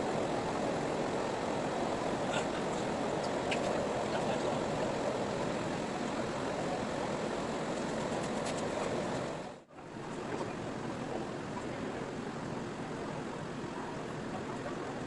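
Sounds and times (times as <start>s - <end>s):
ferry engine hum: 0.0s - 15.0s
rushing water: 0.0s - 15.0s
wind: 0.0s - 15.0s.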